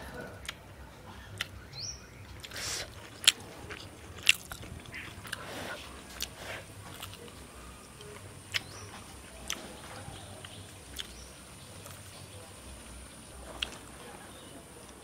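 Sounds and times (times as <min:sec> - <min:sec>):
crunching and chewing food: 0:00.0 - 0:01.6, 0:02.2 - 0:15.0.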